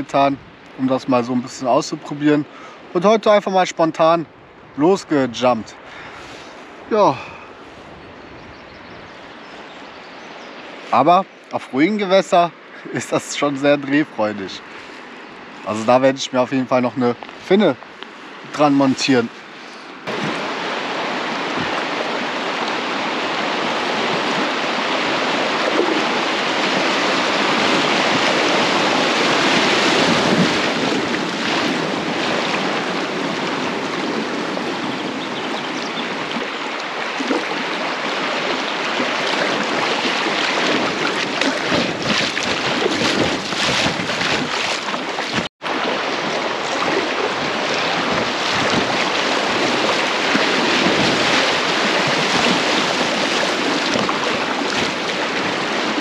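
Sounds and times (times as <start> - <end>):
river water rushing and splashing: 0.0 - 8.0, 9.1 - 56.0.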